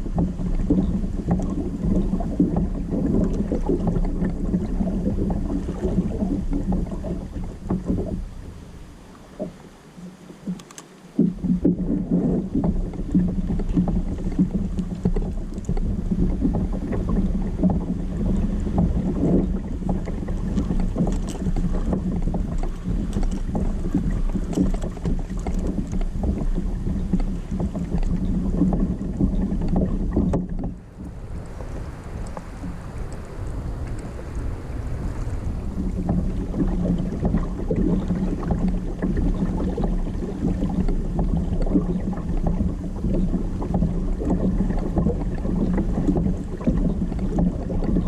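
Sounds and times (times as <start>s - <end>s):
water lapping against hull: 0.0s - 48.0s
wind rumbling on microphone: 0.0s - 48.0s.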